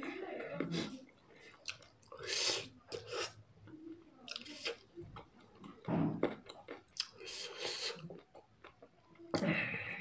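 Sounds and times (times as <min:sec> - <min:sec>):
person chewing noodles: 0:00.6 - 0:03.7, 0:04.3 - 0:10.0.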